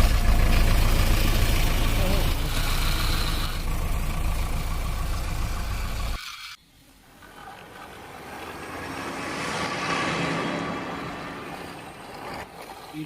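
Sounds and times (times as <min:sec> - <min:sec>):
vehicle engine rumbling: 0:00.0 - 0:06.2, 0:06.8 - 0:13.0.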